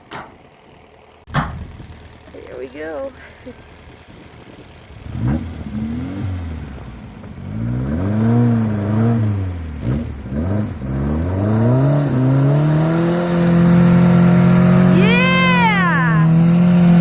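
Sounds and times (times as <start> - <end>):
car engine revving: 0.9 - 17.0.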